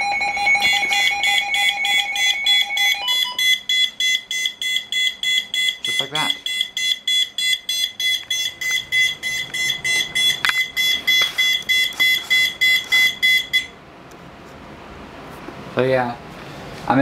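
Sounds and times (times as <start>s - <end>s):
alarm sounder beeping two-tone: 0.0s - 13.8s.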